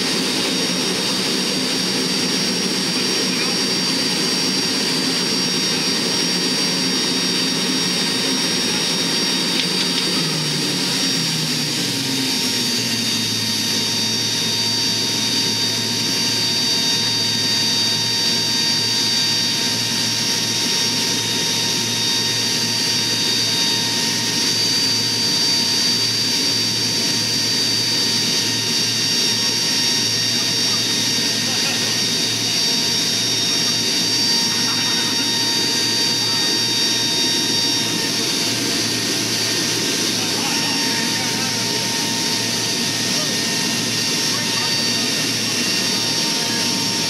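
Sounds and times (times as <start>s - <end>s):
high turbine whine: 0.0s - 47.0s
low propeller drone: 0.0s - 47.0s.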